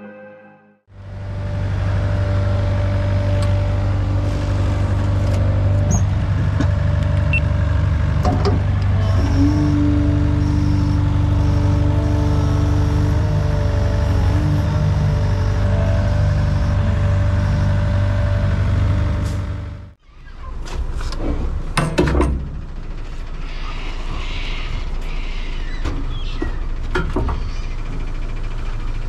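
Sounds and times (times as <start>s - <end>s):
diesel engine humming: 0.8s - 29.0s.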